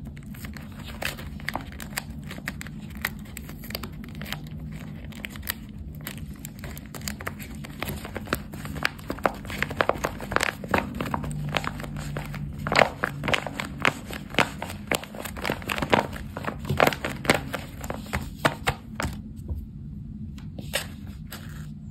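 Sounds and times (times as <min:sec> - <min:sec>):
paper and tape crinkling: 0:00.0 - 0:19.2.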